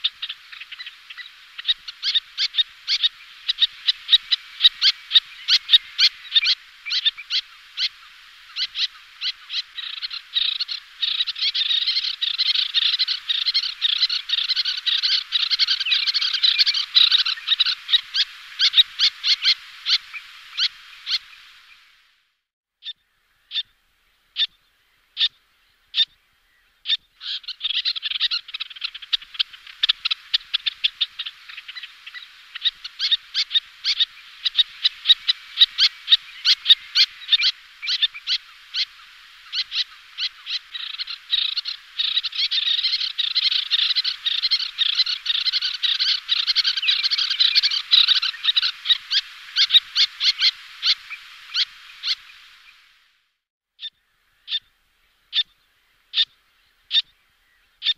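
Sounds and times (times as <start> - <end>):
terns calling: 0.0 - 22.1, 22.8 - 53.0.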